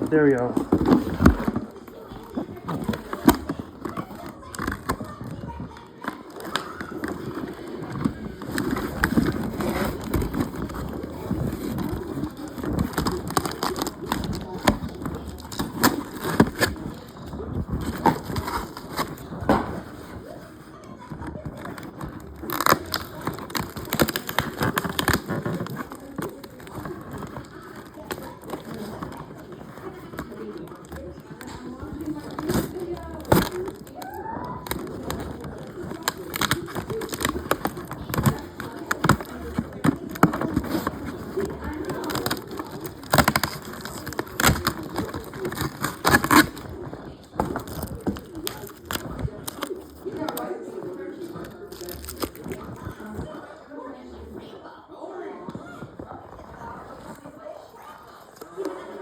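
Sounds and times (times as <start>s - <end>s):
packaging crackling and crinkling: 0.0s - 54.6s, 55.5s - 59.0s.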